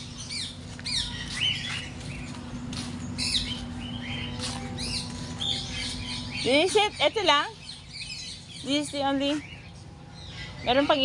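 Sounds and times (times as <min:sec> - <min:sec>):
birds chirping and calling: 0:00.0 - 0:11.0
steady low hum: 0:00.0 - 0:11.0.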